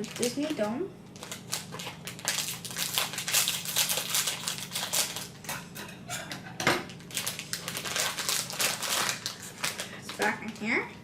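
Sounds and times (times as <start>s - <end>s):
packaging crinkling and clicking: 0.0s - 5.4s, 6.9s - 10.7s.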